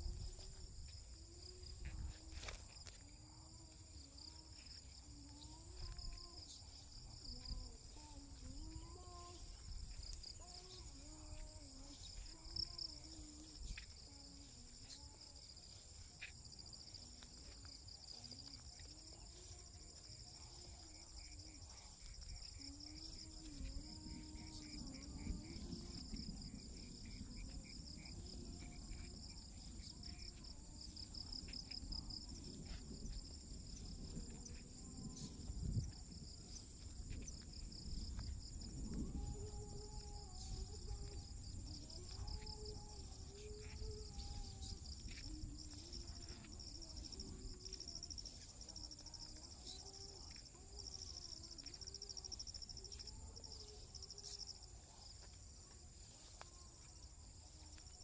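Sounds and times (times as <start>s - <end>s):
crickets trilling: 0.0s - 58.0s
pulsing insect chirp: 0.0s - 58.0s.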